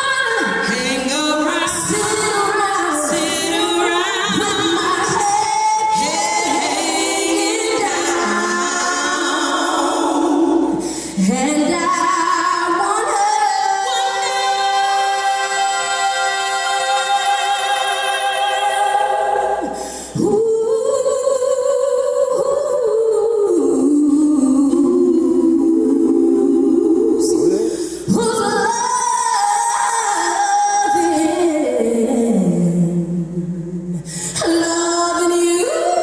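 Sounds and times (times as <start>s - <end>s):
group singing unaccompanied: 0.0s - 32.6s.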